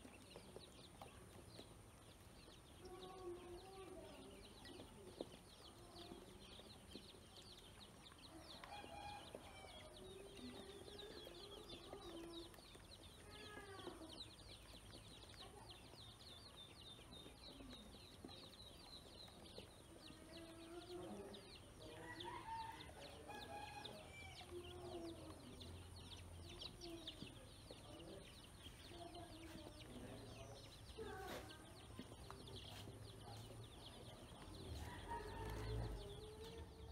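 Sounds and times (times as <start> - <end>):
ducklings peeping: 0.0 - 36.9.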